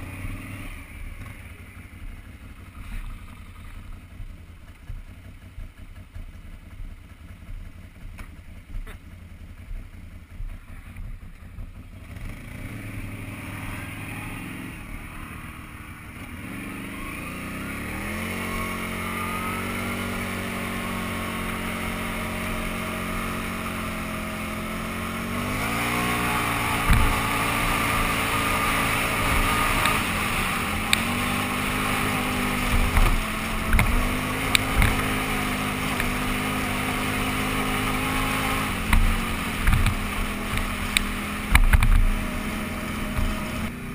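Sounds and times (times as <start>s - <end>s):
atv engine idling and revving: 0.0s - 43.9s.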